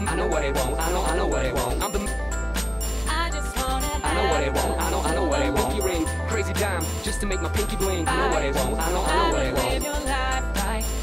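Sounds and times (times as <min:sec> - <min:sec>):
hip hop backing music: 0:00.0 - 0:11.0.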